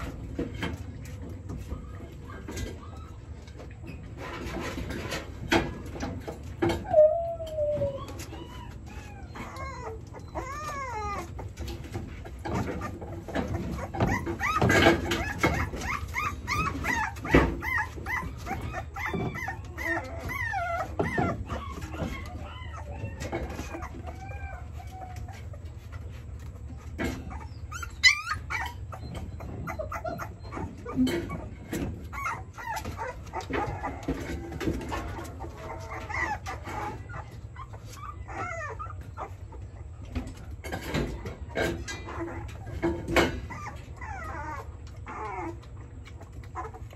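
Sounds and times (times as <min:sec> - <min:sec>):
puppies whimpering and squeaking: 0:00.0 - 0:46.9.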